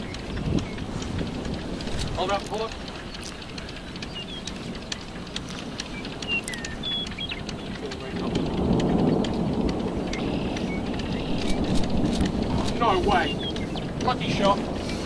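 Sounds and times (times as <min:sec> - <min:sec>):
light ticks: 0:00.0 - 0:15.0
thunderstorm roar and rumble: 0:00.0 - 0:15.0.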